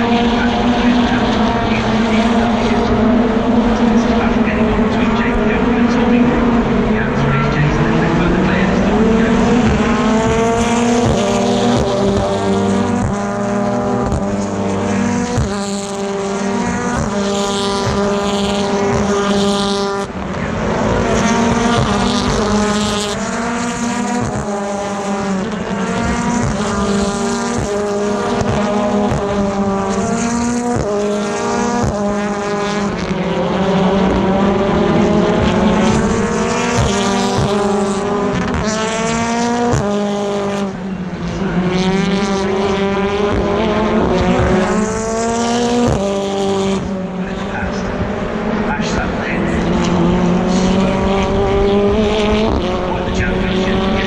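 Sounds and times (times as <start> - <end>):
racing cars accelerating: 0.0 - 54.0.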